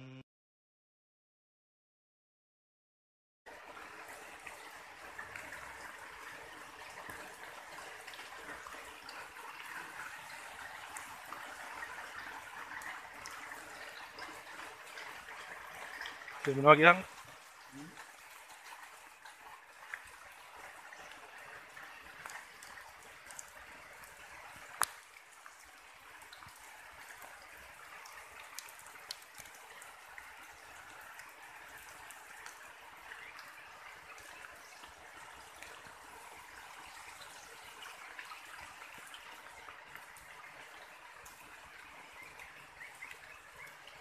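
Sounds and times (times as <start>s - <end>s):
water pattering and trickling: 3.5s - 44.0s
sharp drip-like ticks: 3.7s - 44.0s.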